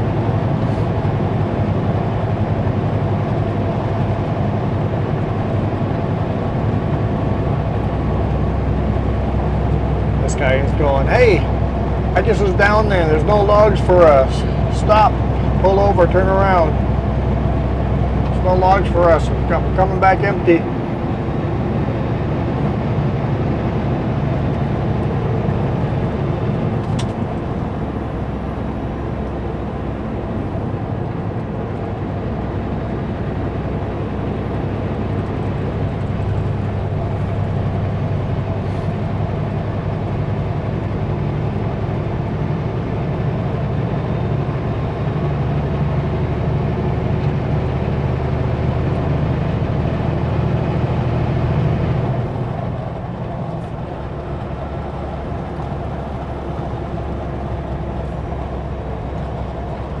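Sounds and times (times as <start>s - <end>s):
road and tyre noise: 0.0s - 60.0s
truck diesel engine drone: 0.0s - 60.0s.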